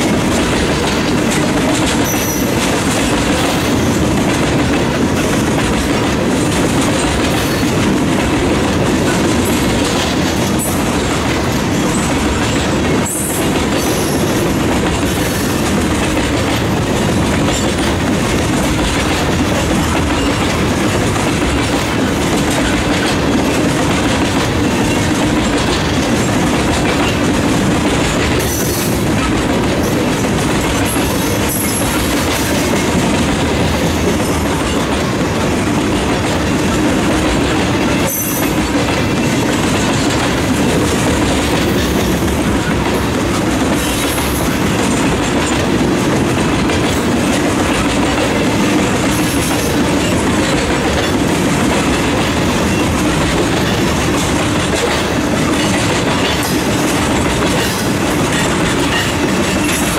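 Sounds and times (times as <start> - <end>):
train wheels rumbling on rail: 0.0 - 59.9
wheel clickety-clack: 0.0 - 59.9.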